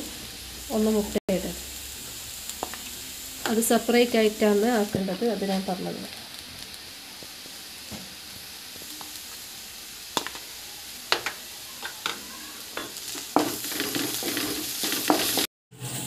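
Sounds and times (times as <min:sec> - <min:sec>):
onions sizzling in hot oil: 0:00.0 - 0:16.0
spatula stirring onions: 0:01.6 - 0:15.5.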